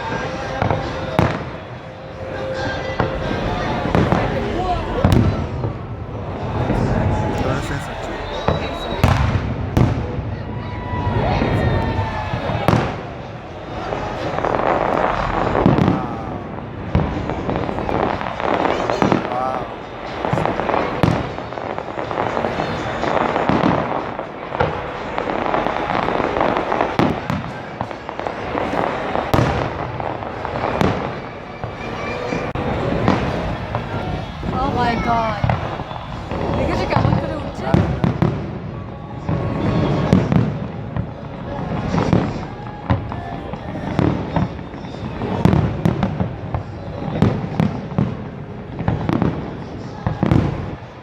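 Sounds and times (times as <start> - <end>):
firework shells booming: 0.0 - 10.3, 11.4 - 50.9
fireworks crackling: 0.0 - 51.0.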